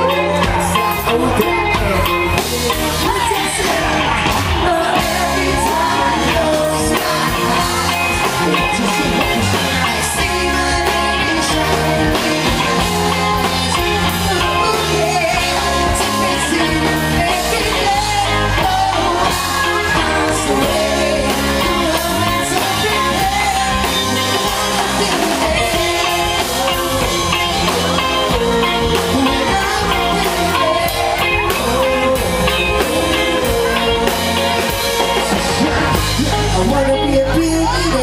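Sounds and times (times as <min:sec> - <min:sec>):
rock band playing with singer: 0:00.0 - 0:38.0.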